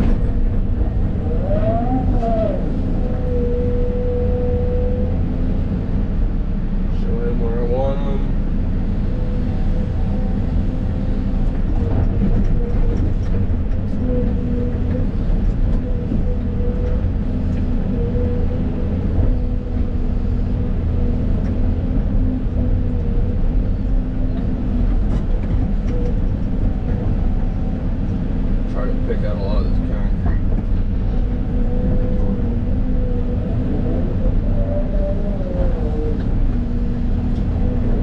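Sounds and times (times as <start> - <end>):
excavator engine drone: 0.0 - 38.0.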